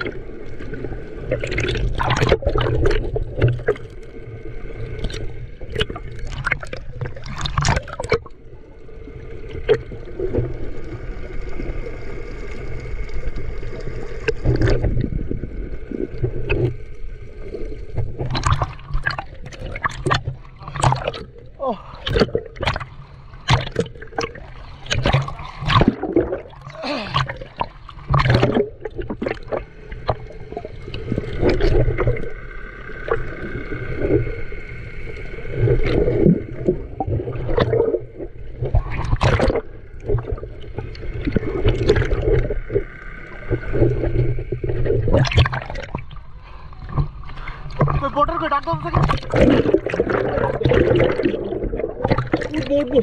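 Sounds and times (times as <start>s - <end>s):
muffled water gurgling: 0.0s - 53.0s.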